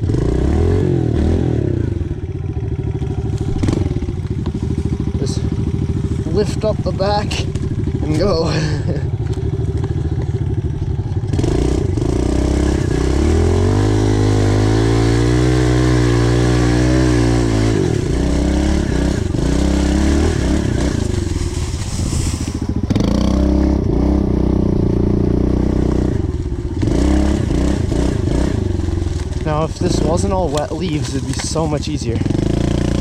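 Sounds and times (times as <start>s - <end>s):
motorbike engine revving: 0.0s - 33.0s.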